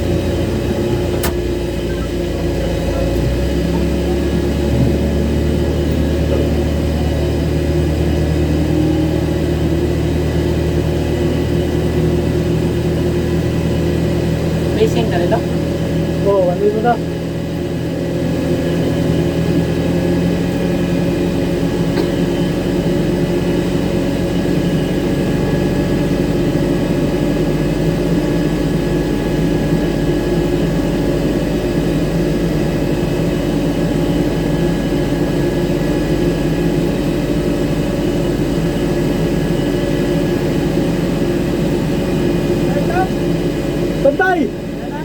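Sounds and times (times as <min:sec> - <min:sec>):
airliner engine drone: 0:00.0 - 0:45.0.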